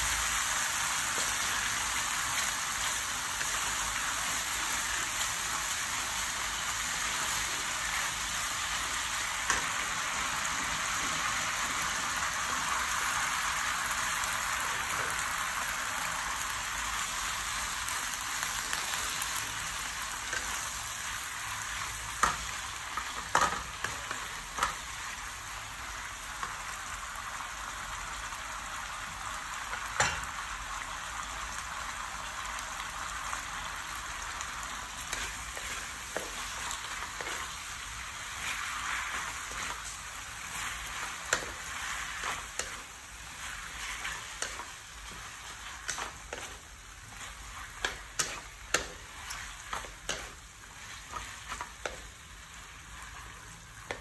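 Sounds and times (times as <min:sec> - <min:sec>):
stirring in a pan: 0:00.0 - 0:30.4, 0:32.5 - 0:54.0
greens sizzling in a pan: 0:00.0 - 0:54.0.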